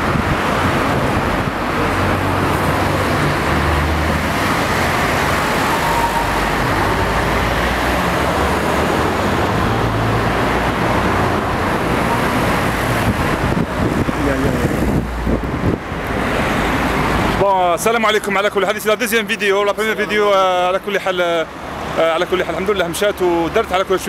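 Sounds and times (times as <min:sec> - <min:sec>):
passing cars rushing: 0:00.0 - 0:24.0.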